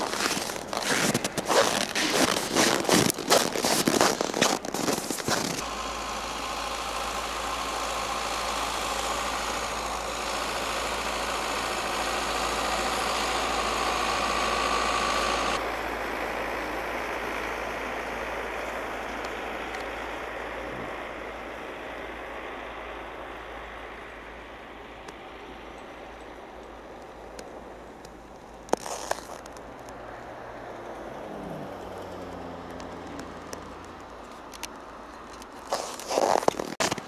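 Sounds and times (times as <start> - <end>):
distant car engine: 0.0 - 37.0
distant tractor engine: 0.0 - 37.0.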